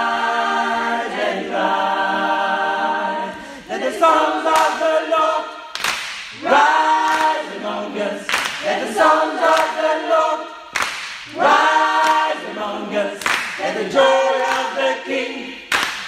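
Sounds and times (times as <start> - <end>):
men's choir singing: 0.0 - 5.6, 6.4 - 10.7, 11.3 - 15.7.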